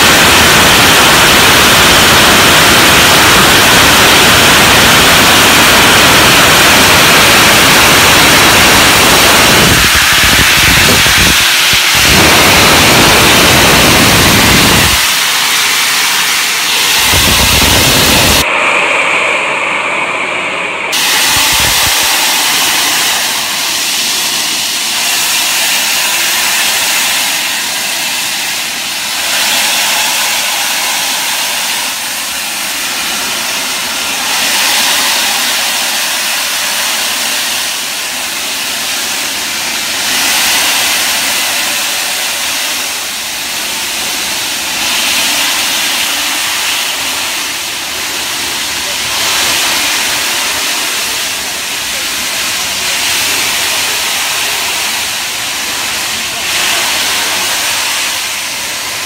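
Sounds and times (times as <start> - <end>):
steam locomotive hissing steam: 0.0 - 59.0.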